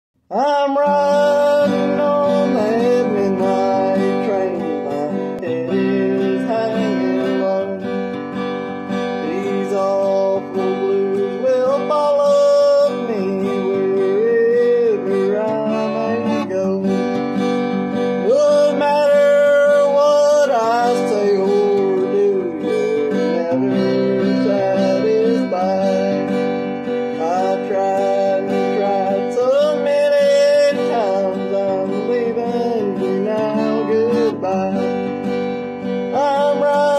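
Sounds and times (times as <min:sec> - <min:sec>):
acoustic guitar strumming: 0:00.2 - 0:36.9
man singing: 0:00.3 - 0:36.9.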